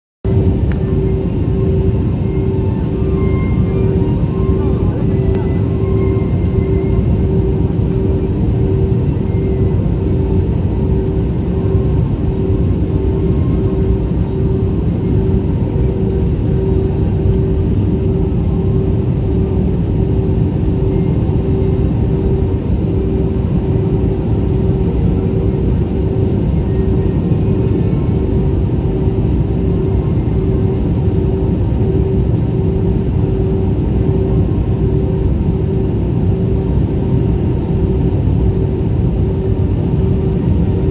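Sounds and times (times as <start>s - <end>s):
airliner engine roar in cabin: 0.2s - 40.9s
mid-pitched hum: 0.2s - 40.9s.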